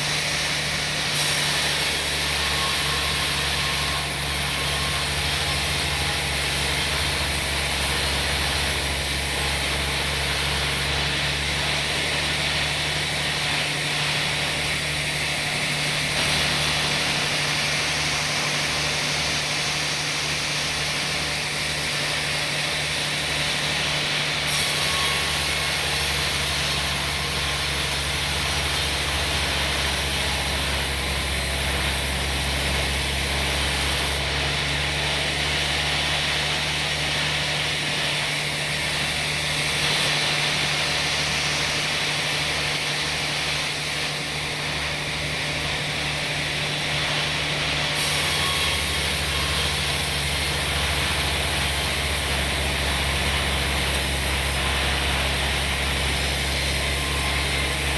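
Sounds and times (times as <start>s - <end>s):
sawmill engine hum: 0.0s - 57.9s.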